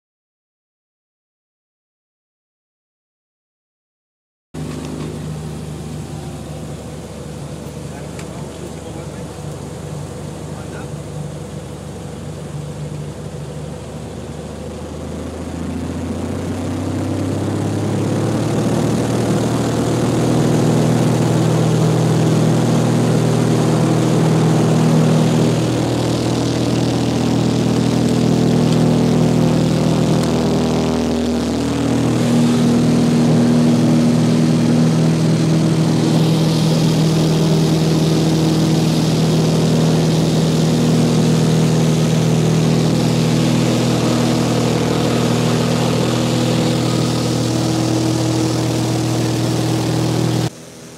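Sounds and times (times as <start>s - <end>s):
propeller plane engine: 4.6s - 50.9s.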